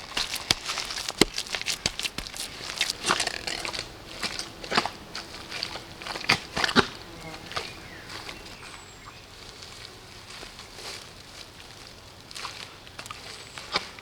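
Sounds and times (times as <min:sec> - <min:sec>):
dry leaves crackling: 0:00.0 - 0:13.6.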